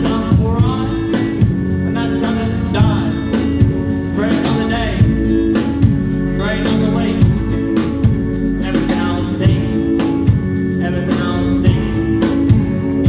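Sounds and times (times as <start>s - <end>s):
drums beating: 0.0s - 13.0s
guitar chords: 0.0s - 13.0s
voice or lead line: 0.0s - 13.0s.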